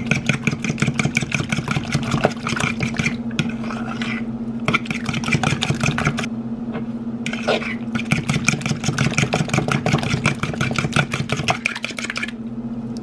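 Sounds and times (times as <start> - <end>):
fork beating egg in a bowl: 0.0 - 6.3, 7.3 - 12.5
steady low hum: 0.0 - 13.0.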